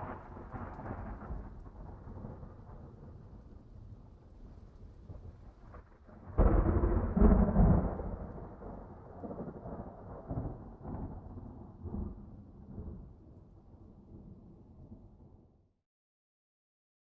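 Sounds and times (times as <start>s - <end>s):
thunder crack and rumble: 0.0s - 15.4s.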